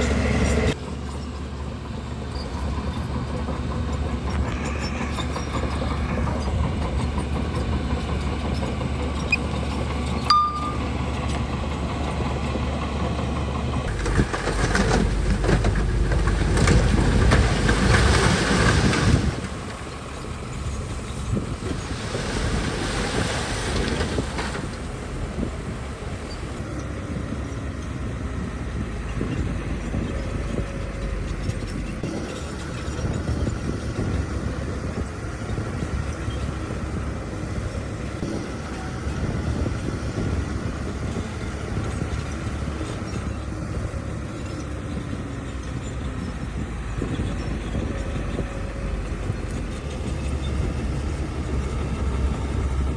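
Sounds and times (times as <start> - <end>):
bulldozer diesel engine: 0.0 - 52.9
steel tracks clanking: 0.0 - 52.9.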